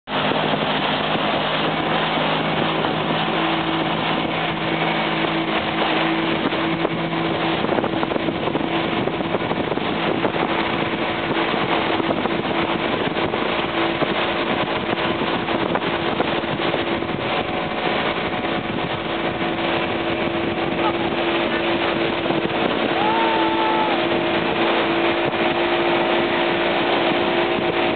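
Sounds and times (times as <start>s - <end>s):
boat wake churning: 0.0s - 27.9s
outboard motor droning: 0.0s - 27.9s
wind: 0.0s - 27.9s.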